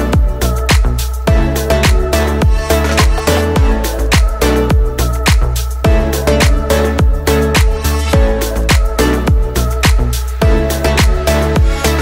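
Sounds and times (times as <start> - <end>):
electronic dance music: 0.0 - 12.0
steady kick drum beat: 0.2 - 11.8.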